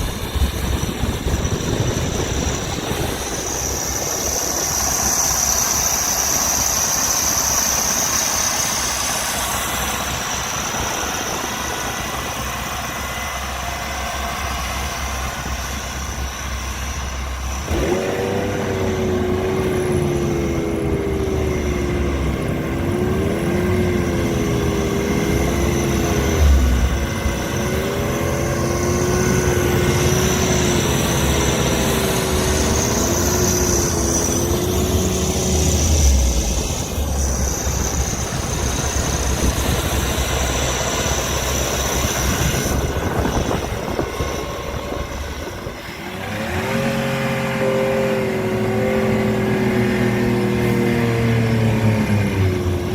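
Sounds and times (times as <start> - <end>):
loud whine rising and falling: 0.0 - 52.9
tractor diesel engine under load: 0.0 - 52.9.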